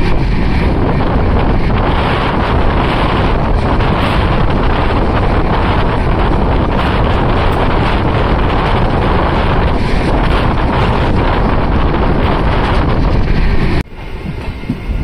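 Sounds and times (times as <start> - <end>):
moving train running noise: 0.0 - 15.0
wind buffeting microphone: 0.0 - 15.0.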